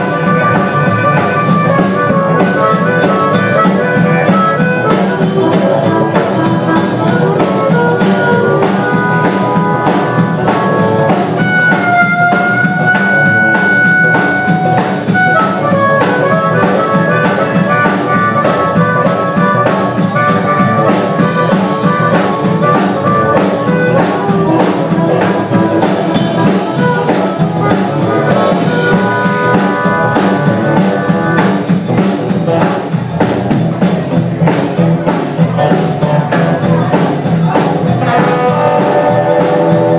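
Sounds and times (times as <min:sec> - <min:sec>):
harmonica playing lead: 0:00.0 - 0:32.2, 0:35.6 - 0:39.9
blues band playing: 0:00.0 - 0:39.9.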